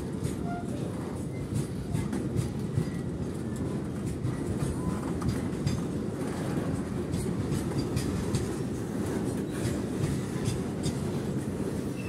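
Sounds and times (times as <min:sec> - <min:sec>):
train wagons rumbling: 0:00.0 - 0:12.0
wheels clicking over rail joints: 0:00.0 - 0:12.0.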